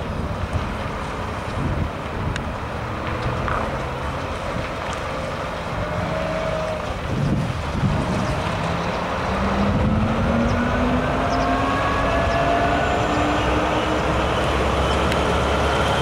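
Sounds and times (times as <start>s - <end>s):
wind noise on microphone: 0.0s - 16.0s
truck diesel engine running: 2.7s - 16.0s.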